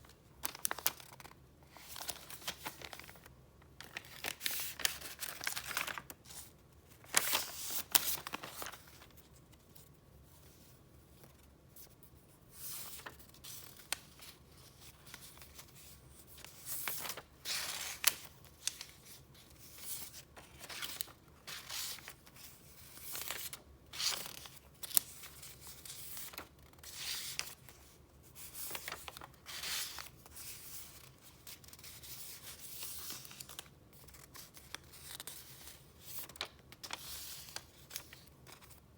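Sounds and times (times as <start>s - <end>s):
paper rustling: 0.4s - 9.8s, 12.6s - 38.8s.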